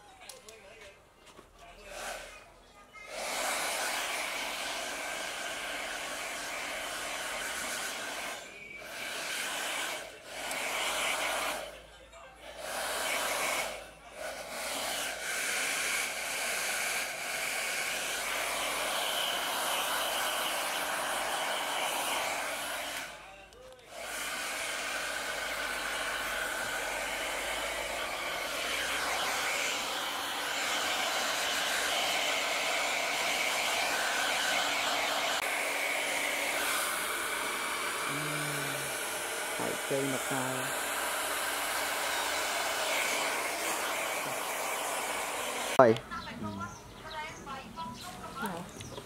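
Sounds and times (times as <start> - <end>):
hair dryer blowing: 1.9 - 2.3, 3.1 - 11.8, 12.5 - 46.0.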